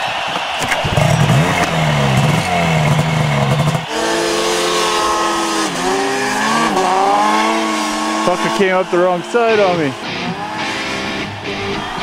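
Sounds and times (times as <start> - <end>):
snowmobile engine revving: 0.4 - 12.0.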